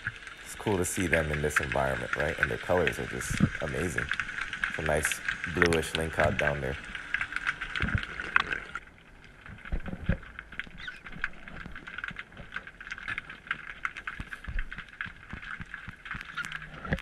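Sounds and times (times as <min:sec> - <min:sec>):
small underwater clicks and crackles: 0:00.0 - 0:17.0.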